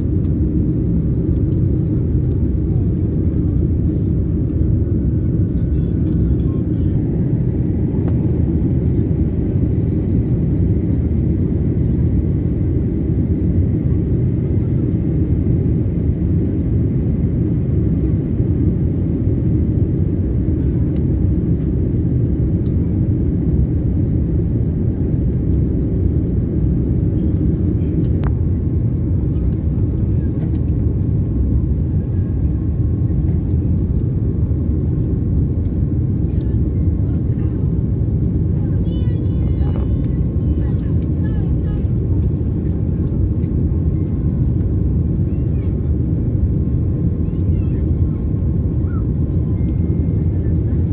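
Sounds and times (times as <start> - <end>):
airliner cabin rumble: 0.0 - 50.9.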